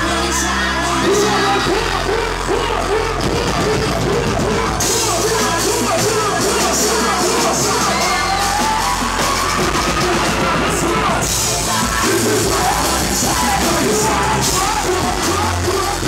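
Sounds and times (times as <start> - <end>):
bass-heavy hip-hop beat: 0.0 - 16.0.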